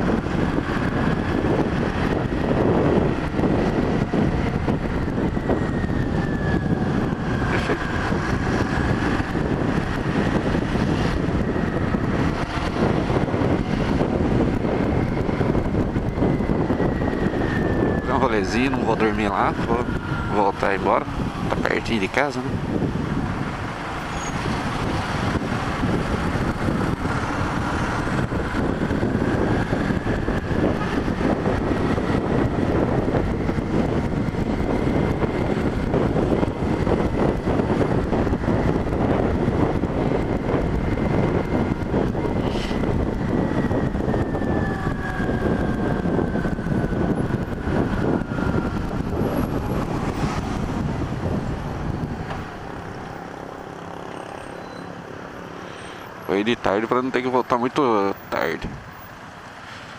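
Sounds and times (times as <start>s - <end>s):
wind noise: 0.0s - 59.9s.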